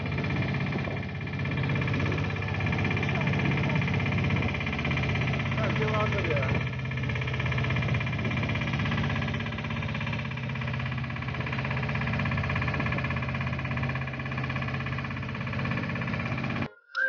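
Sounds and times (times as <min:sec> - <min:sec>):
boat engine drone: 0:00.0 - 0:16.7.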